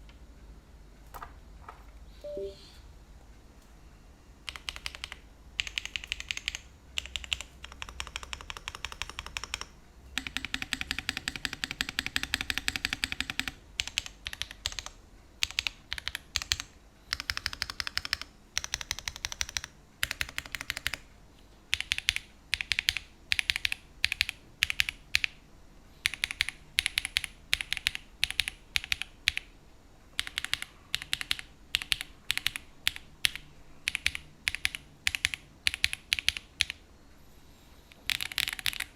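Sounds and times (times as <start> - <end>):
mechanical keyboard typing: 4.4 - 21.1, 21.7 - 25.4, 26.0 - 29.5, 30.2 - 36.8, 37.9 - 38.9.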